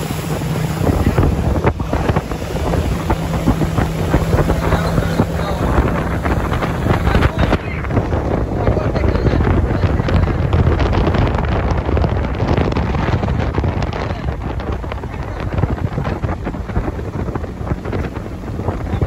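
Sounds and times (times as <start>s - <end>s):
boat engine running: 0.0s - 19.0s
water rushing: 0.0s - 19.0s
wind buffeting microphone: 0.0s - 19.0s.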